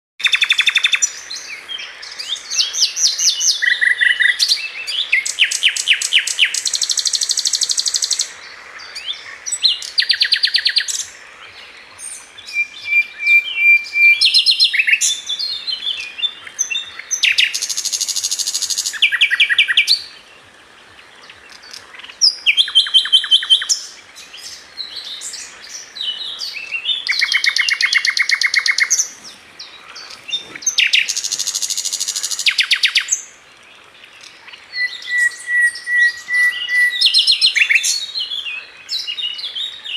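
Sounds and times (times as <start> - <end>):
forest birds singing: 0.2 - 39.9.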